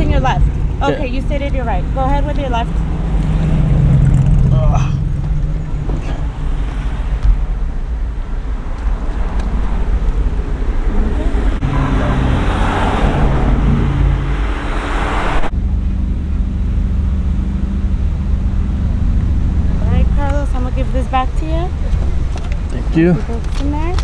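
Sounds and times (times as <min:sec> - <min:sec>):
road traffic rumble: 0:00.0 - 0:24.0
vehicle passing: 0:00.0 - 0:24.0.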